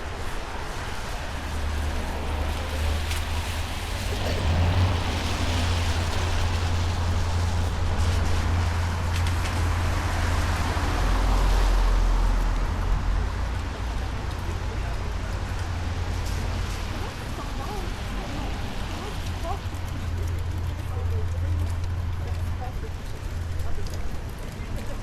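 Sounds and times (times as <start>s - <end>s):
traffic rumble and hiss: 0.0s - 25.0s.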